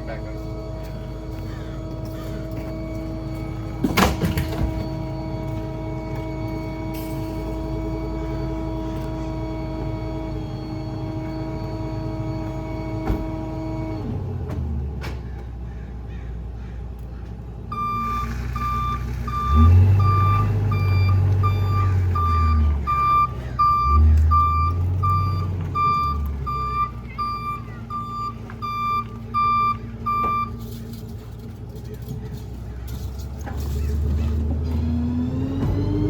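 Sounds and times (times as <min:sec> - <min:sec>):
truck back-up alarm beeping: 0:00.0 - 0:14.3, 0:17.7 - 0:31.8, 0:32.6 - 0:36.0
truck engine revving: 0:00.0 - 0:15.0, 0:17.8 - 0:36.0.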